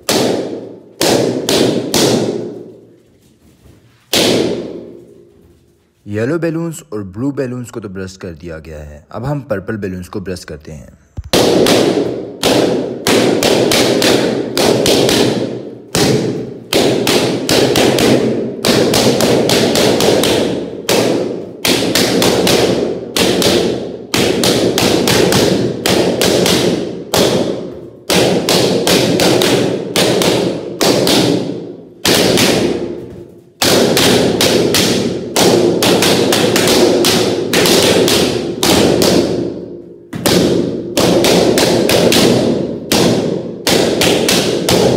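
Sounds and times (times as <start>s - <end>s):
balloons popping: 0.0s - 3.1s, 3.7s - 5.4s, 11.1s - 44.9s.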